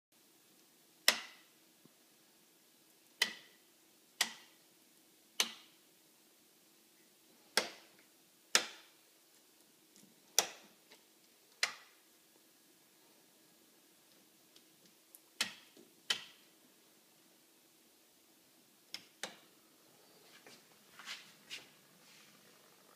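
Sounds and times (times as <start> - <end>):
faint steady hum: 0.2 - 22.9.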